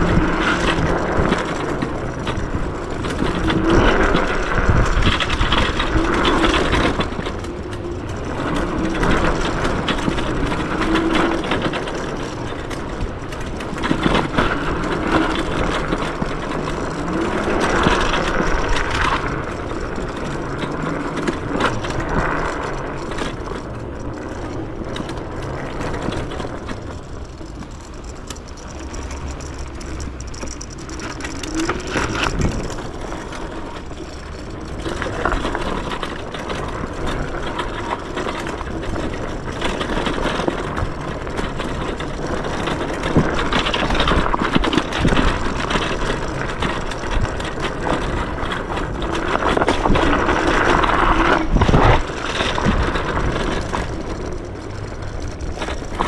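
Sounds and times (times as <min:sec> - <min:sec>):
knocks and rattles over bumps: 0:00.0 - 0:56.0
tyre and wind noise: 0:00.0 - 0:56.0.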